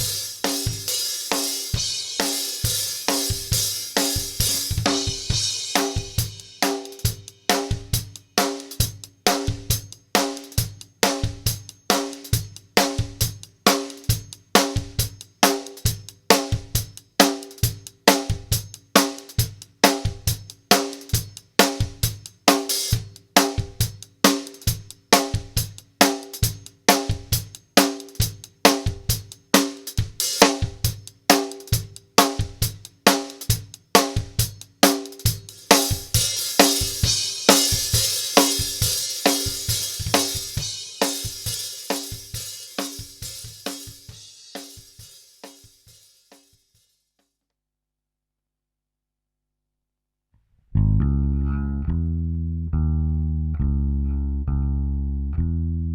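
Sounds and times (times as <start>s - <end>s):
drum kit beat: 0.0s - 46.6s.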